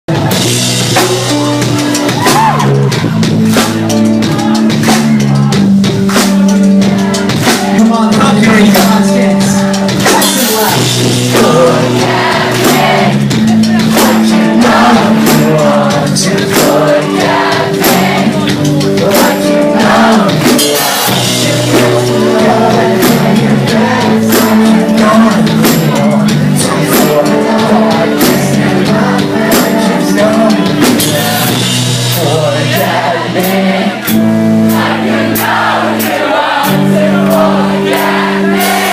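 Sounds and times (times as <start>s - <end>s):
drum kit: 0.1s - 38.9s
person singing lead vocal: 0.1s - 38.9s
pop-punk band playing live: 0.1s - 38.9s.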